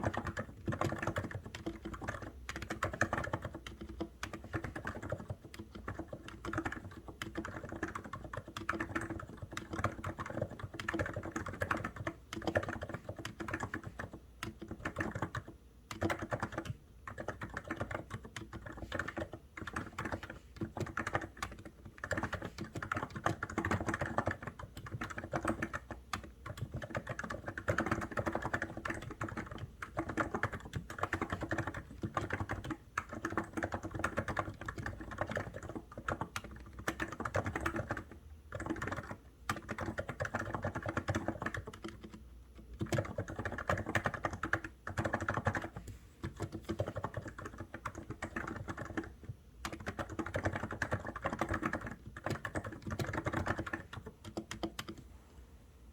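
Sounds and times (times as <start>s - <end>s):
keyboard typing: 0.0s - 55.1s.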